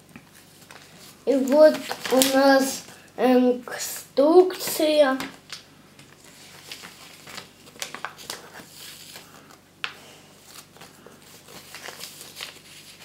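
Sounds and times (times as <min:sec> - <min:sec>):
paper rustling and crinkling: 0:00.2 - 0:03.0, 0:04.4 - 0:13.0.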